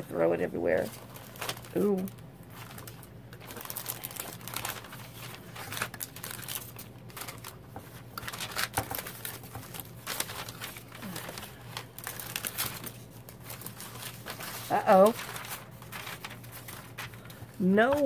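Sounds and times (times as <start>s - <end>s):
packaging rustling and crinkling: 0.7s - 18.0s.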